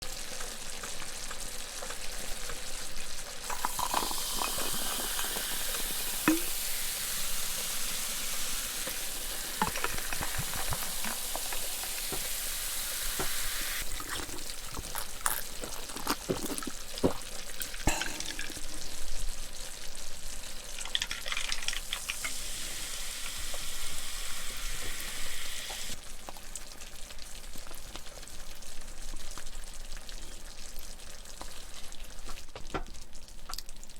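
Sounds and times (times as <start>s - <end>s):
food sizzling in a pan: 0.0s - 33.9s.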